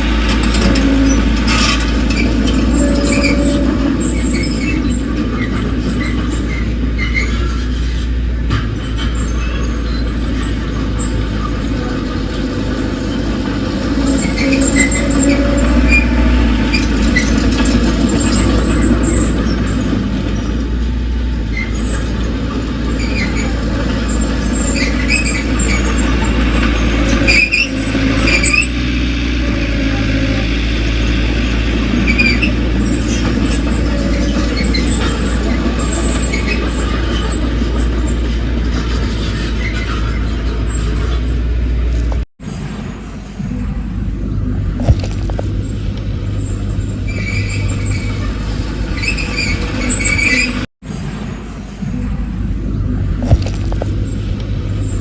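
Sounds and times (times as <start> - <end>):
high squeals: 0.0 - 43.8, 44.8 - 52.1
diesel engine rumbling: 0.0 - 55.0.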